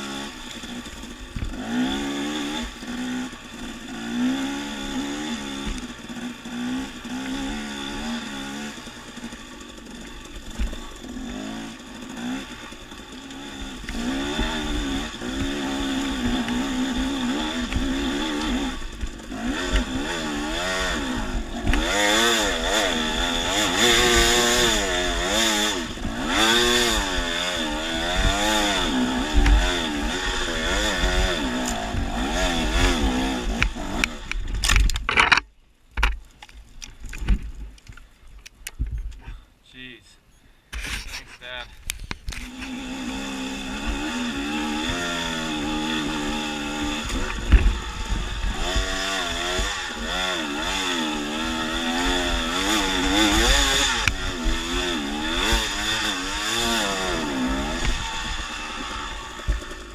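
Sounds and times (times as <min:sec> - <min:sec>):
dirt bike engine revving: 0:00.0 - 0:35.5, 0:40.7 - 0:59.9.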